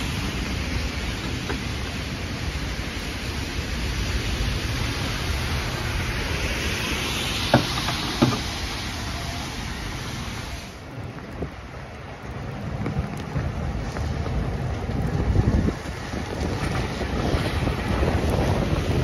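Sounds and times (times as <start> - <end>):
tram rolling over wet rails: 0.0 - 19.0.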